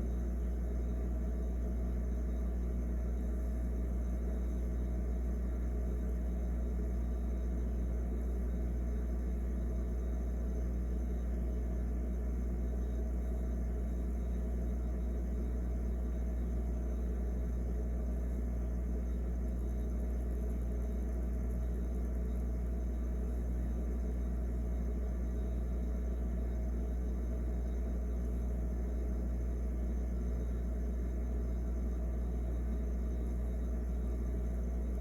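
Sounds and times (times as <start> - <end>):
refrigerator hum: 0.0 - 35.0.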